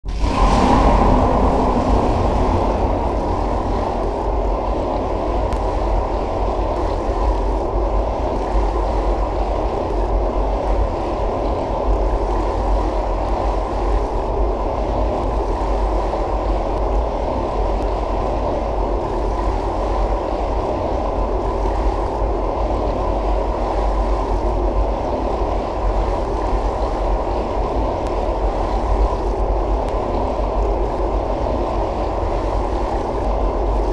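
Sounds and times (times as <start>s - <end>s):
steady low rushing noise: 0.0s - 33.9s.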